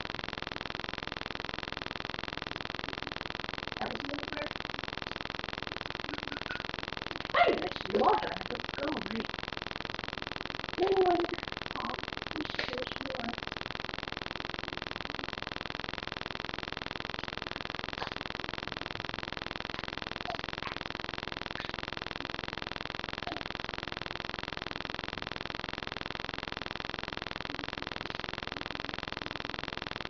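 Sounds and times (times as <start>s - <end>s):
microphone buzzing hiss: 0.0s - 30.0s.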